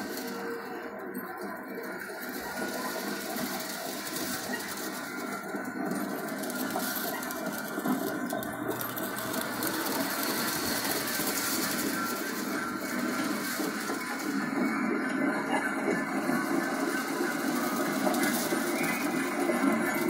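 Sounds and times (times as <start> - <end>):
small electric motors whirring: 0.0 - 20.0.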